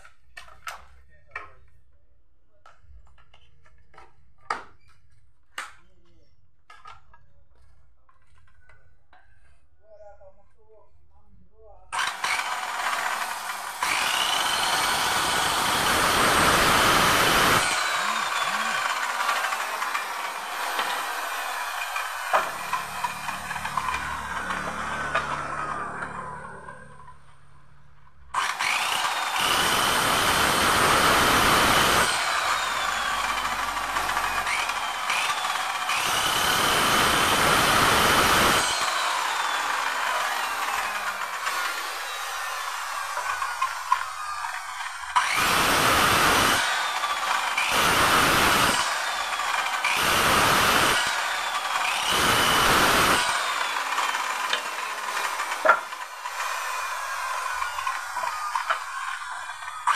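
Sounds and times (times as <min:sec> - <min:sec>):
circular saw cutting wood: 0:11.9 - 0:59.9.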